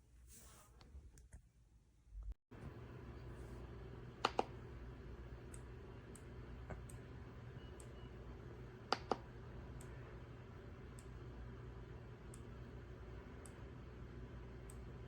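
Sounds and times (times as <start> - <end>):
steady low hum: 2.2 - 15.0.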